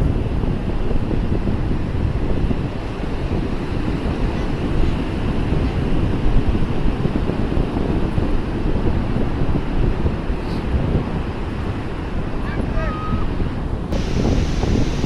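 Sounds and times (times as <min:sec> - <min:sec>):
wind buffeting microphone: 0:00.0 - 0:15.0
sea waves and surf: 0:00.1 - 0:15.0.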